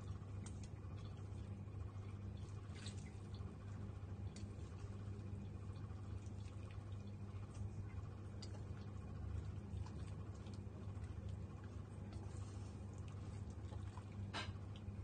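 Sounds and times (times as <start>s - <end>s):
steady low hum: 0.0s - 15.0s
water dripping and trickling: 0.0s - 15.0s.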